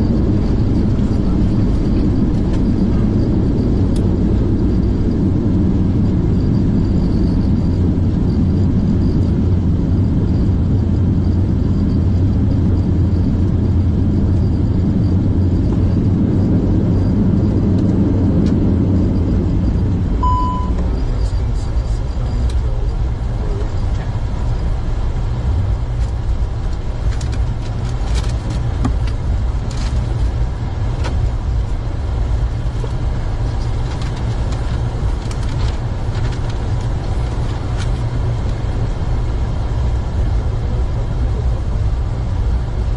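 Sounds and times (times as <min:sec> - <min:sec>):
turboprop engines rumbling: 0:00.0 - 0:42.9.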